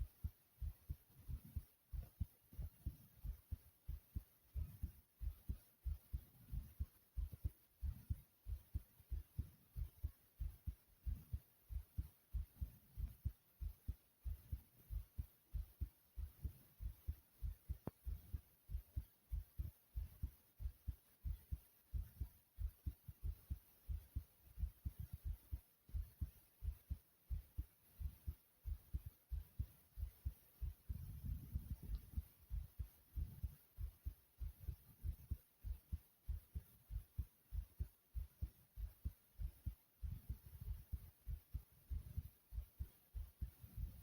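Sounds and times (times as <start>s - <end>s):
heartbeat thumps: 0.0s - 44.0s.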